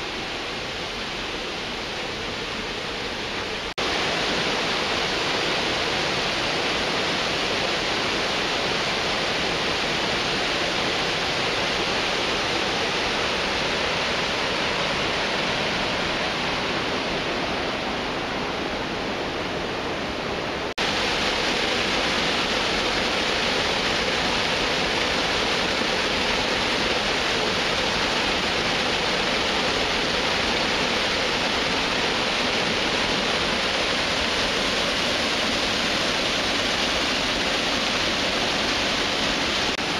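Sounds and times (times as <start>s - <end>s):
water rushing over dam spillway: 0.0s - 39.9s.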